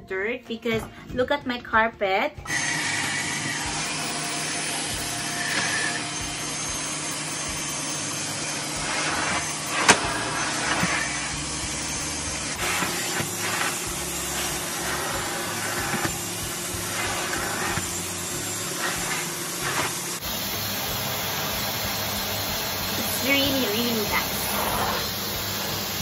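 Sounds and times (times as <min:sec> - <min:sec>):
air rushing through hose: 0:02.5 - 0:26.0
vacuum cleaner motor humming: 0:02.5 - 0:26.0.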